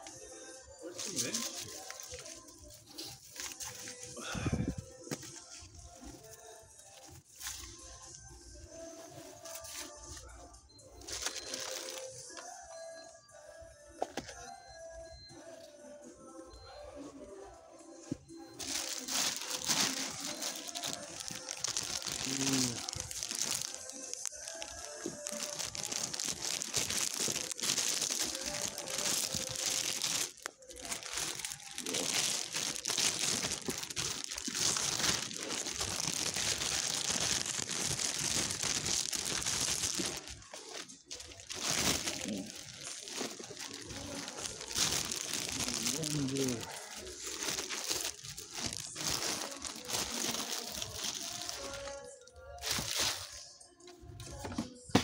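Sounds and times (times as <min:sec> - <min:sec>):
crinkling and rustling handling noise: 0:00.0 - 0:12.7, 0:15.5 - 0:55.0.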